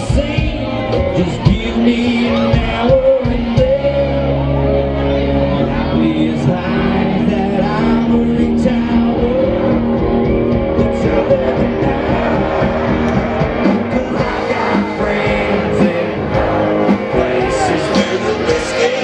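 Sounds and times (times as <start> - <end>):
live country band playing: 0.0 - 19.0
person singing: 0.0 - 19.0.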